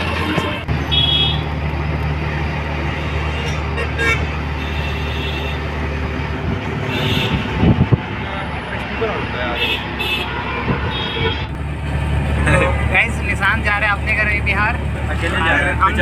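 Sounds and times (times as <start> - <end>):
truck engine humming: 0.0 - 16.0.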